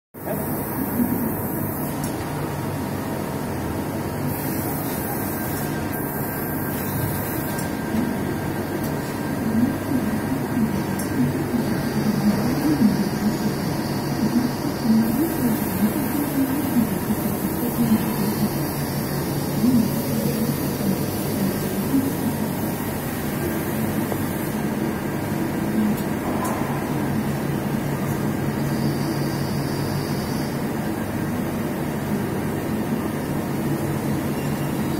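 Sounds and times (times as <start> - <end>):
axis drive whine: 0.2 - 34.9
machine hum: 0.2 - 34.9.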